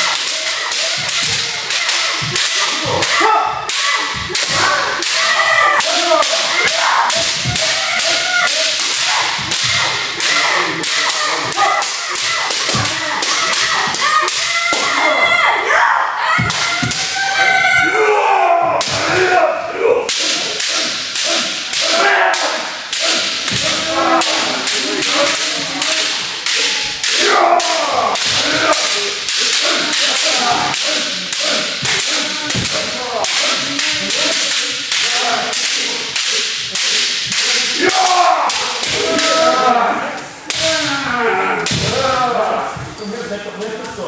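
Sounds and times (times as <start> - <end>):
bamboo swords cracking: 0.0 - 15.1, 20.1 - 39.7, 40.5 - 41.0, 41.6 - 42.2
people shouting: 0.0 - 43.0.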